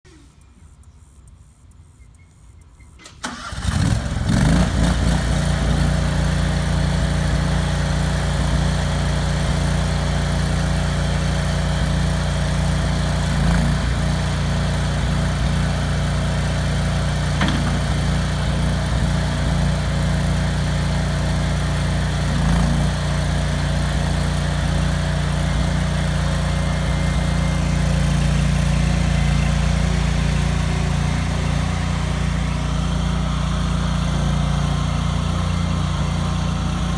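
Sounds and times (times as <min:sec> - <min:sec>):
gas engine starting and idling: 0:03.0 - 0:36.9.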